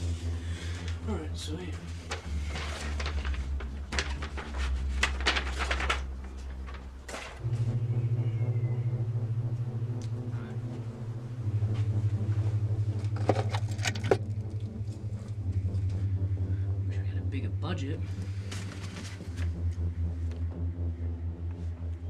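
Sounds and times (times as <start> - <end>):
low steady drone: 0.0 - 22.0
pulsing low hum: 0.0 - 22.0.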